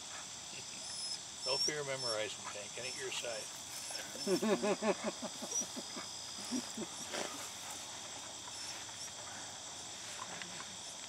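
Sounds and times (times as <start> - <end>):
crickets and insects chirring: 0.0 - 11.0.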